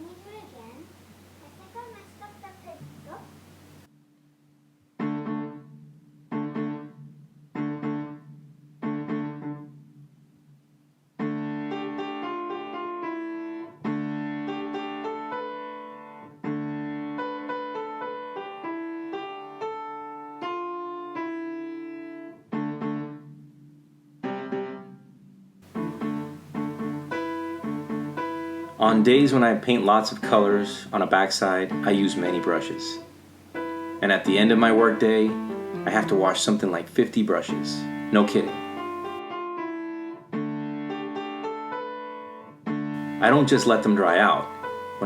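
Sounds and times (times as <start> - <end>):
piano music: 5.0 - 10.6, 11.2 - 45.0.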